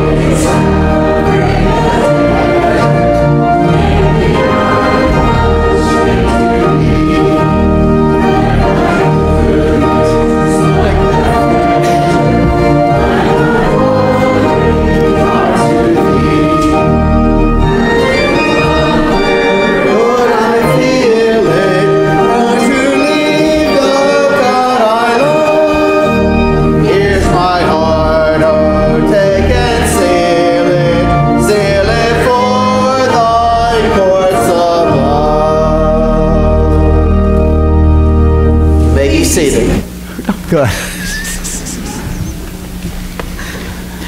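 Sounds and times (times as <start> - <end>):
voices singing a hymn: 0.0 - 40.0
organ: 0.0 - 44.0.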